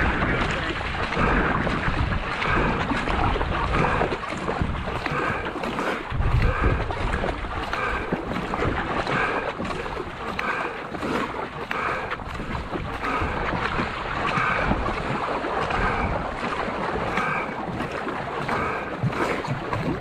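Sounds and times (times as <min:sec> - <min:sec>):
canoe paddle strokes in water: 0:00.0 - 0:20.0
wind buffeting microphone: 0:00.0 - 0:20.0.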